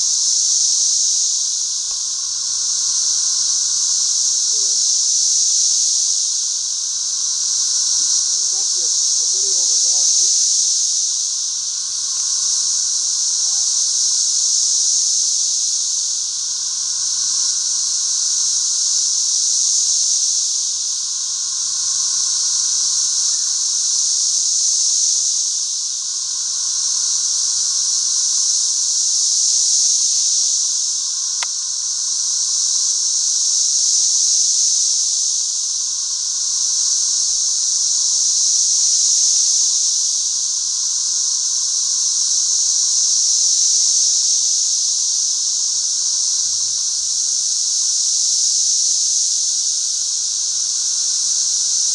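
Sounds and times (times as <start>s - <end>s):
cicadas high-pitched hiss: 0.0s - 51.9s.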